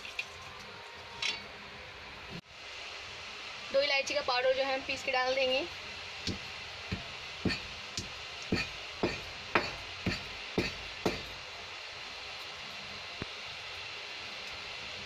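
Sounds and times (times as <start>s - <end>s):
steady hiss: 2.3s - 15.0s.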